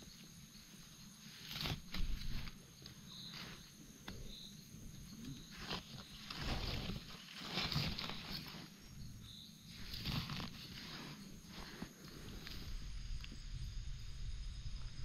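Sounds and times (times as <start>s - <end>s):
rustling in dry leaves: 0.6s - 13.6s.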